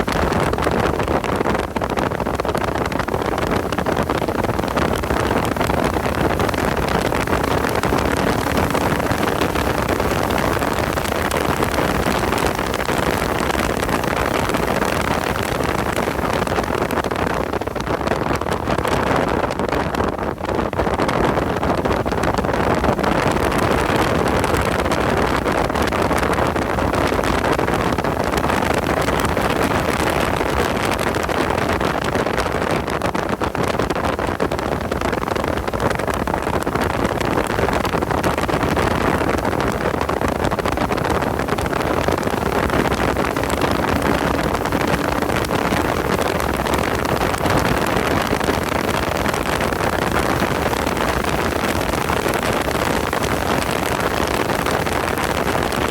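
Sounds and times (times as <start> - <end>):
car engine and road noise: 0.0 - 55.9
wind buffeting microphone: 0.0 - 55.9.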